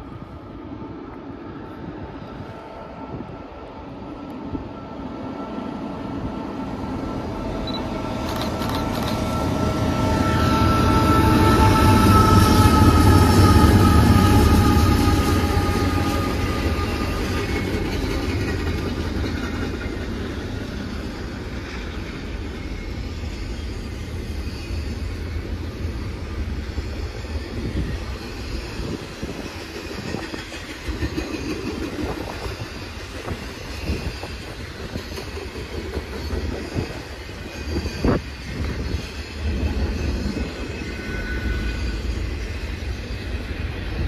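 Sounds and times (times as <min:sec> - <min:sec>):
train cars rolling past: 0:00.0 - 0:44.0.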